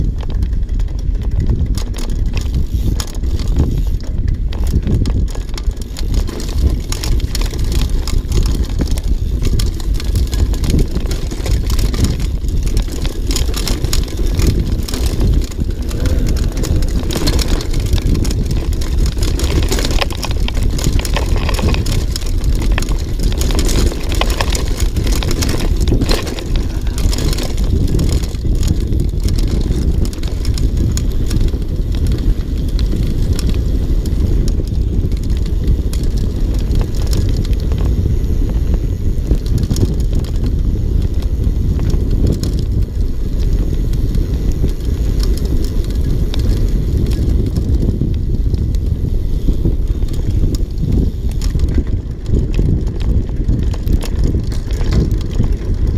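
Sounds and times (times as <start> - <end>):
bike rattling clicks: 0.0 - 55.9
tyres rolling over dirt and rocks: 0.0 - 55.9
wind rumble on microphone: 0.0 - 55.9.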